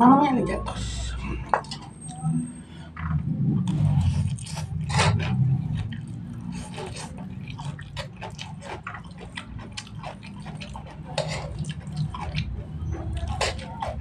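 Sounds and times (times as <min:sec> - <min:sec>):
slurping and chewing noodles: 0:01.2 - 0:02.2, 0:03.5 - 0:14.0.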